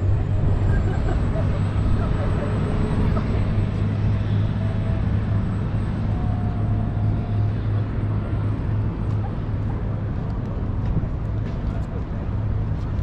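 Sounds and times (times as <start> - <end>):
faint whine: 0.0 - 13.0
low engine drone: 0.0 - 13.0
outdoor city ambience: 0.0 - 13.0.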